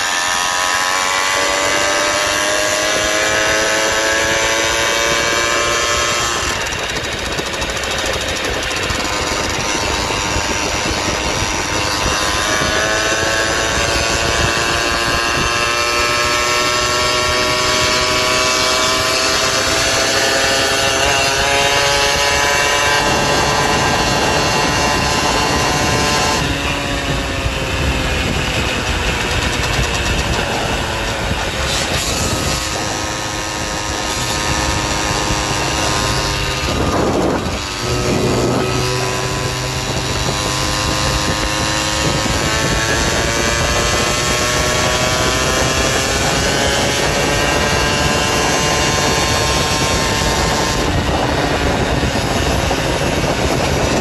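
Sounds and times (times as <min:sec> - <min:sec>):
small gas engine revving: 0:00.0 - 0:54.0.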